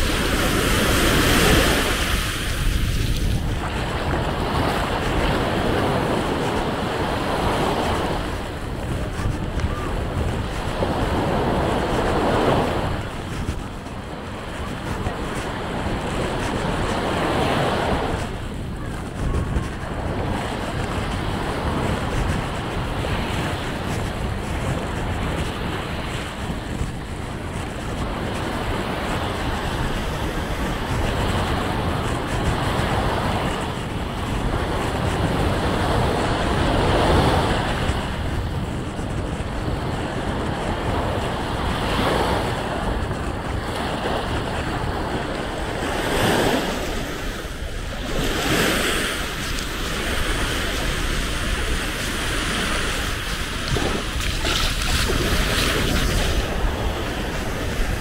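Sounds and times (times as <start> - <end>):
sea waves washing onto beach: 0.0 - 58.0
wind rumbling on microphone: 0.0 - 58.0.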